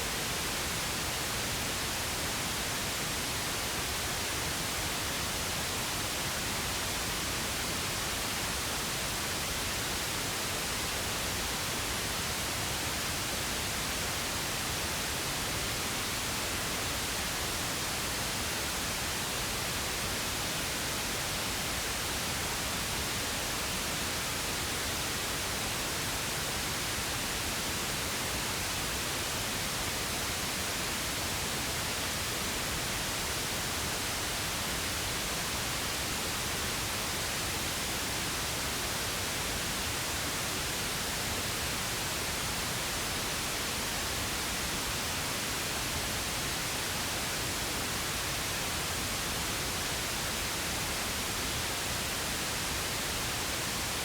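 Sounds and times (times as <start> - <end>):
pink noise hiss: 0.0 - 54.0.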